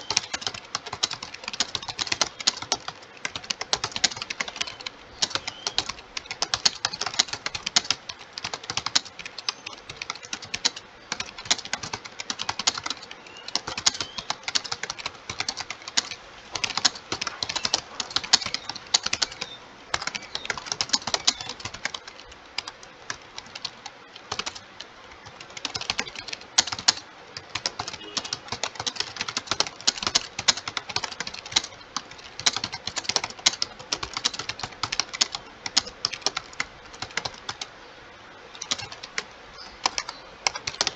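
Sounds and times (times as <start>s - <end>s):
fast typing on a keyboard: 0.0s - 37.7s, 38.6s - 40.9s.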